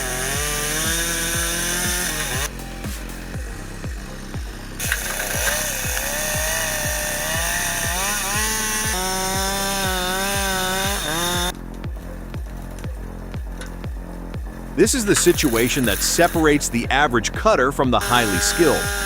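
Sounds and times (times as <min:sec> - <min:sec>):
chainsaw cutting: 0:00.0 - 0:12.6, 0:14.5 - 0:17.0, 0:18.0 - 0:19.0
background music with steady beat: 0:00.0 - 0:19.0.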